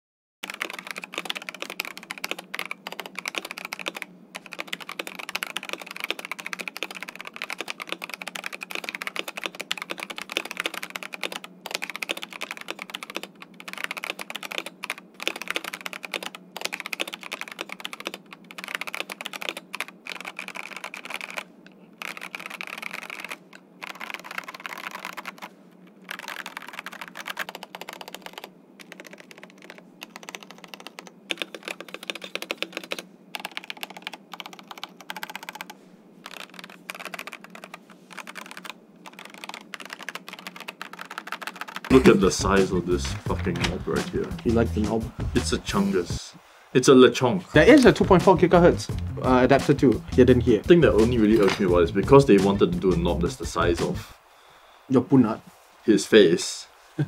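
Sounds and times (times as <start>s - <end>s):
mechanical keyboard typing: 0.4s - 45.6s, 49.2s - 54.0s.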